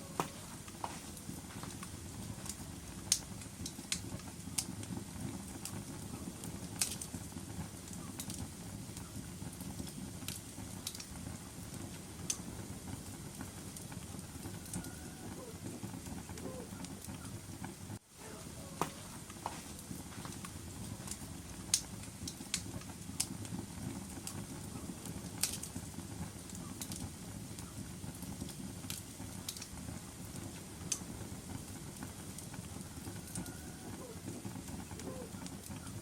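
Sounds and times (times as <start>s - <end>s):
wood fire burning: 0.0s - 36.0s.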